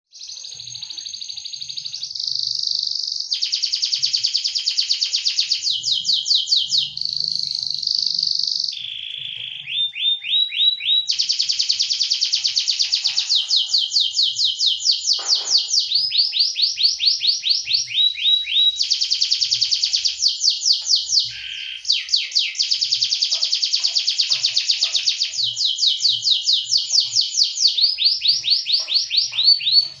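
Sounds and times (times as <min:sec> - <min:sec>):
canary singing trills: 0:00.1 - 0:30.0.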